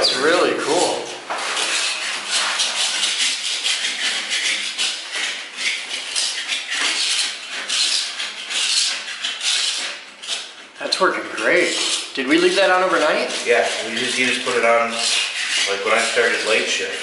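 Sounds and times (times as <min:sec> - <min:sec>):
putty knife scraping concrete floor: 0:00.0 - 0:17.0.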